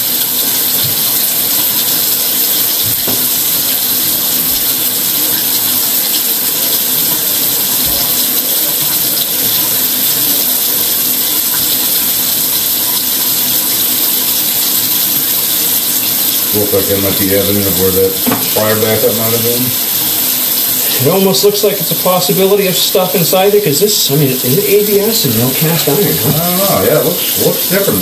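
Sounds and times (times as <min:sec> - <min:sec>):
running water hiss: 0:00.0 - 0:28.0.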